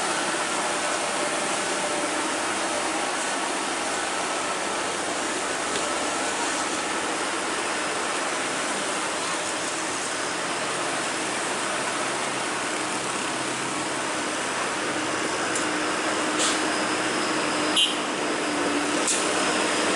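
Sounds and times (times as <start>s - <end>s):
steady vehicle noise: 0.0s - 19.9s.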